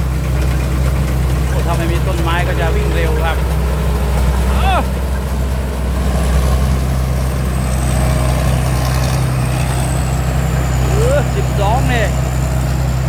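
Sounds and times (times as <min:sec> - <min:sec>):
combine harvester running: 0:00.0 - 0:13.0.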